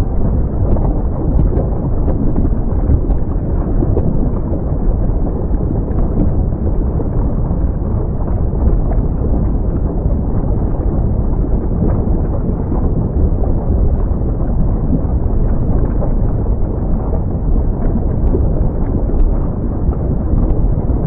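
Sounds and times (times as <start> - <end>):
faint crackles: 0.0 - 21.0
volcano eruption deep rumble: 0.0 - 21.0.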